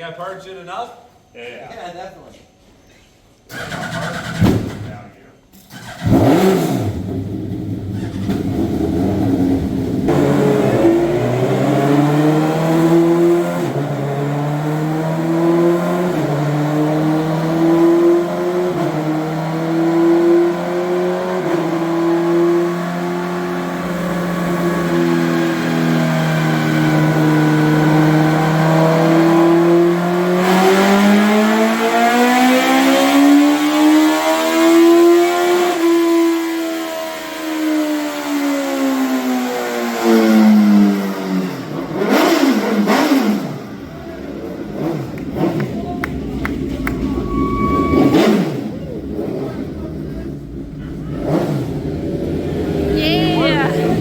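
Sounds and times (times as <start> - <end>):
loud engines revving under load: 5.6 - 54.0.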